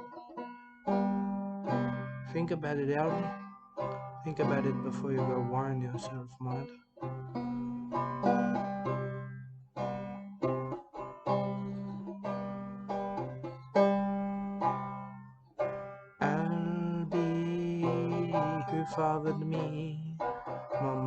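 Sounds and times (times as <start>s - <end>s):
banjo plucked slowly: 0.0s - 21.0s.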